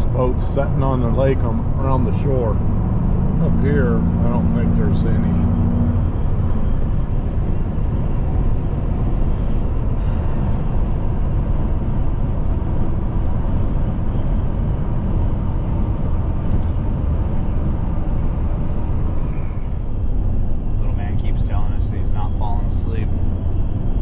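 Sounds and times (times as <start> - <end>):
truck road noise drone: 0.0 - 24.0.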